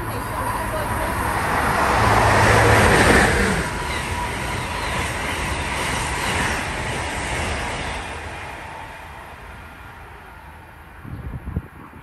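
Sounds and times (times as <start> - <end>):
electric train rushing past: 0.0 - 11.7.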